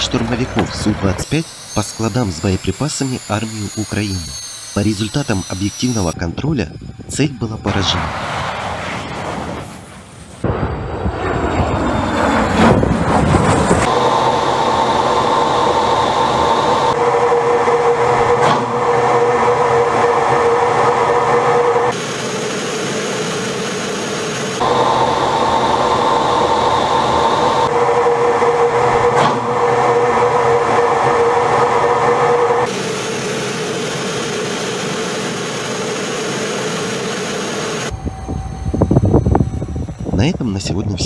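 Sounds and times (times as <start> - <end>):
jet engine roar with whine: 0.0 - 41.0.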